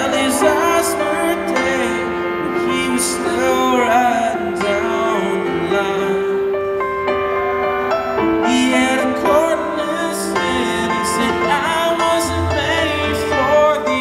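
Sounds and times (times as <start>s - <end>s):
man singing: 0.0s - 6.8s, 8.2s - 14.0s
keyboard chords: 0.0s - 14.0s.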